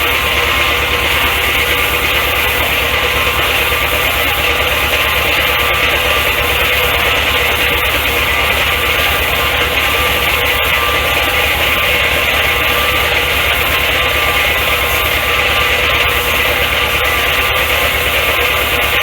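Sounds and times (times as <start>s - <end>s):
engine running with fast beat: 0.0s - 19.0s
sandpaper hissing on spinning metal: 0.0s - 19.0s.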